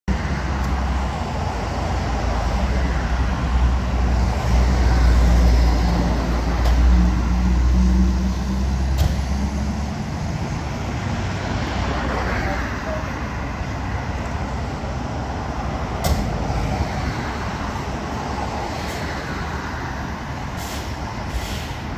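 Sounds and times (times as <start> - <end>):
diesel engine rumbling: 0.1 - 21.9.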